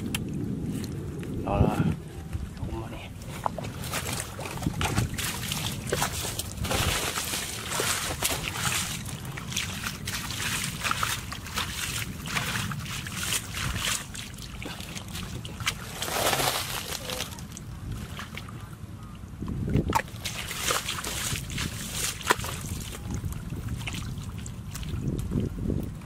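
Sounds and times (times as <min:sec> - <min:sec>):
feet sloshing through muddy water: 0:03.0 - 0:26.0.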